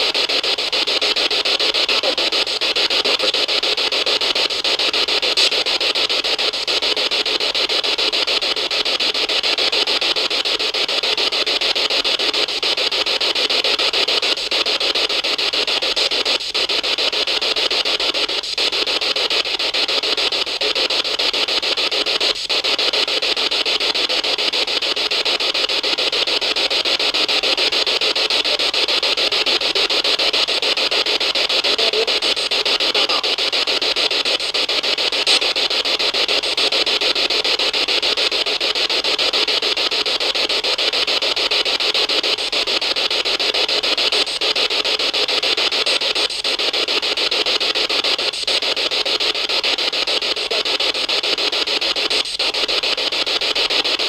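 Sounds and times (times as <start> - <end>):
loud hiss of static: 0.0 - 54.0.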